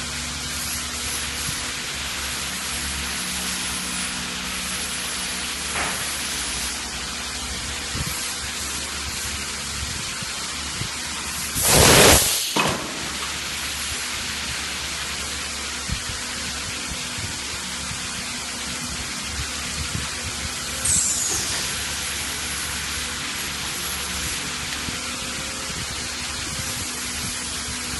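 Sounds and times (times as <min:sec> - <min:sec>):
compressed air rush: 0:00.0 - 0:16.2, 0:19.2 - 0:27.9
steady hiss: 0:00.0 - 0:27.9.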